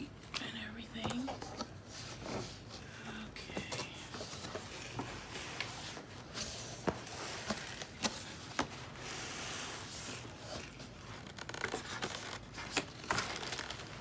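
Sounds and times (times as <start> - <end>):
packaging rustling and scraping: 1.2 - 14.0.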